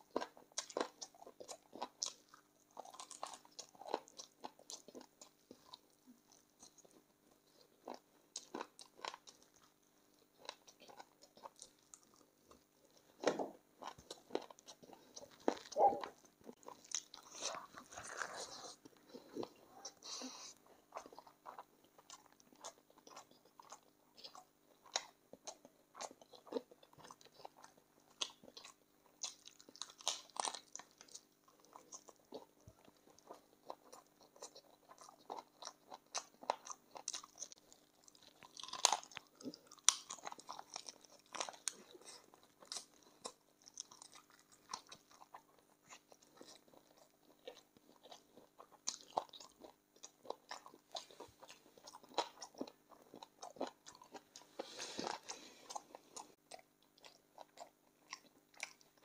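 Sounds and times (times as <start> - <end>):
chewing and crunching: 0.0 - 59.0.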